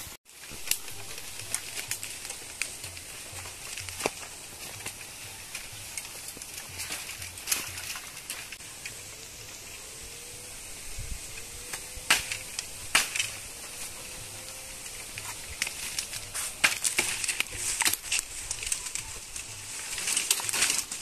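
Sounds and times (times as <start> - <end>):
bamboo stems snapping: 0.4 - 8.9, 11.4 - 21.0.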